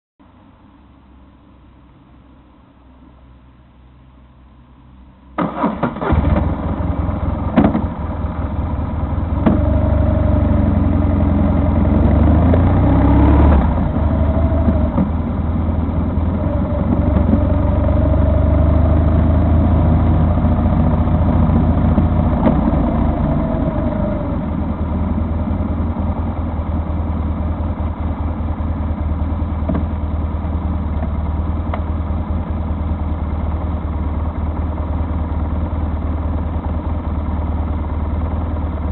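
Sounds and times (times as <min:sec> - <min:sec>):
vehicle engine starting and idling: 0:05.0 - 0:38.9.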